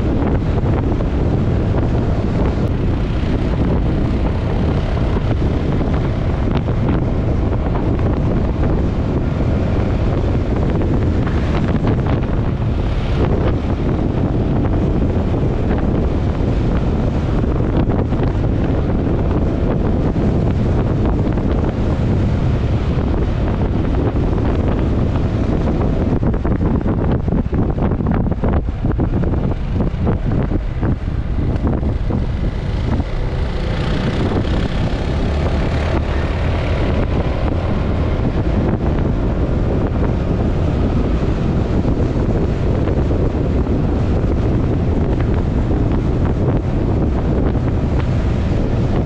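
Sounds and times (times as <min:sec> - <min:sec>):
scooter engine and tyre noise: 0:00.0 - 0:49.0
wind noise on microphone: 0:00.0 - 0:49.0.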